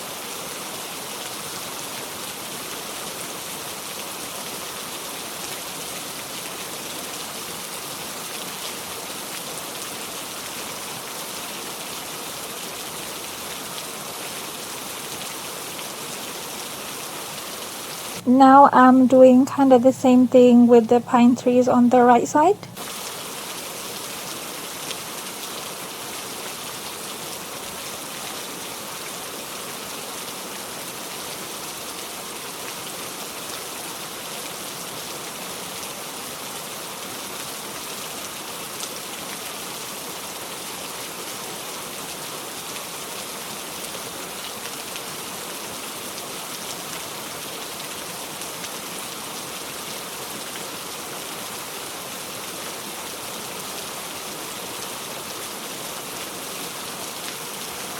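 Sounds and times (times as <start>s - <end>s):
steady rain falling: 0.0s - 18.3s, 22.6s - 57.9s.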